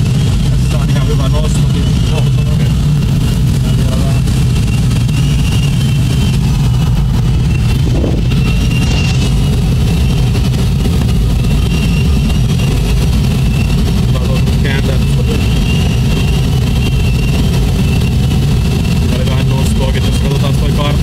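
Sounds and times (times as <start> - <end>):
airflow rushing in cockpit: 0.0 - 21.0
variometer high tone: 0.0 - 21.0.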